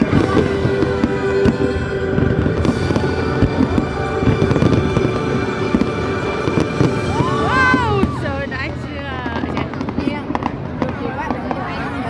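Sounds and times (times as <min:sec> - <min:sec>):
music playing: 0:00.0 - 0:10.8
fireworks bangs and crackles: 0:00.0 - 0:12.0.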